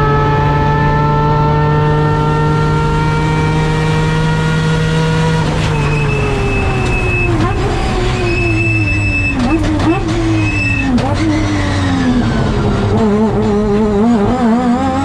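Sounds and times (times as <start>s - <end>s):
rotary engine high revs: 0.0s - 15.0s.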